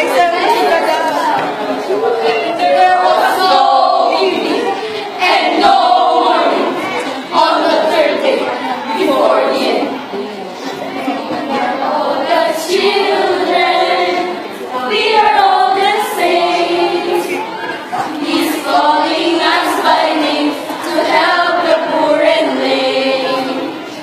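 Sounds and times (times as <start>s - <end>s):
group of students singing: 0.0s - 24.0s.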